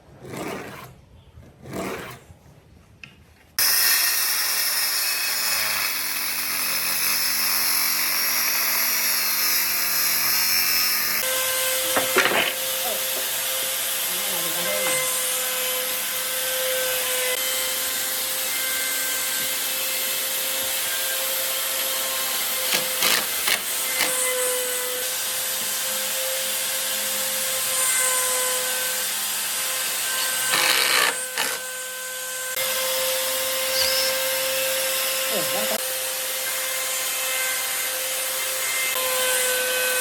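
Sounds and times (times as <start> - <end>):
power tool whining on wood: 3.6 - 40.0.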